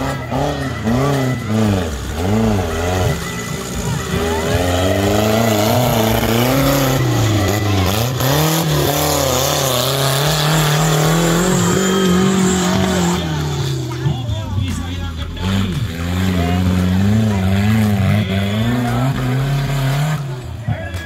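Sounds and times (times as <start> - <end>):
buggy engine revving: 0.0 - 21.0.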